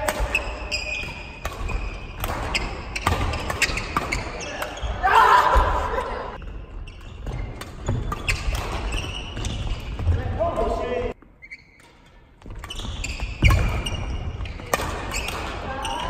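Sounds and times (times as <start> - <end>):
rackets hitting shuttlecock: 0.0 - 10.2, 11.8 - 16.0
shoes squeaking on wooden floor: 0.4 - 5.0, 6.6 - 10.4, 11.1 - 16.0.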